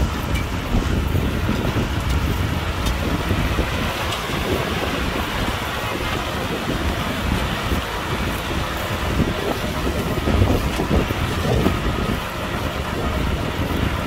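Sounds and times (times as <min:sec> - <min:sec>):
tractor diesel engine running: 0:00.0 - 0:14.0
wind noise on microphone: 0:00.0 - 0:14.0.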